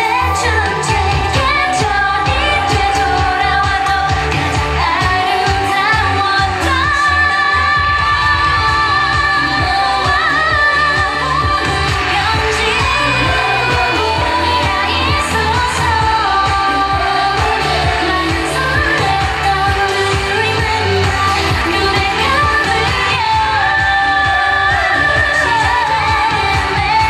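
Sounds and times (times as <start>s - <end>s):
bass beat: 0.0s - 27.0s
pop song over speakers: 0.0s - 27.0s
women singing into microphones: 0.0s - 27.0s.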